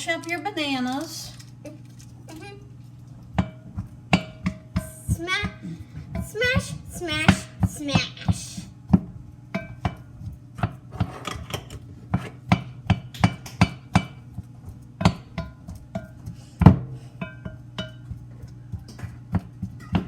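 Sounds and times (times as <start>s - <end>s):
utensil knocking against bowl: 3.3s - 20.0s.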